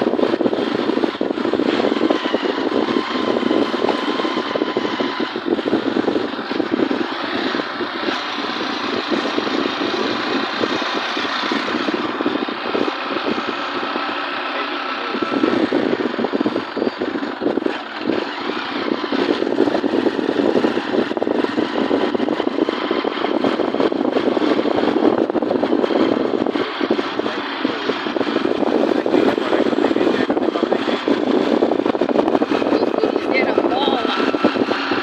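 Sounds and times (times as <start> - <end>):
vehicle engine and road noise: 0.0 - 35.0.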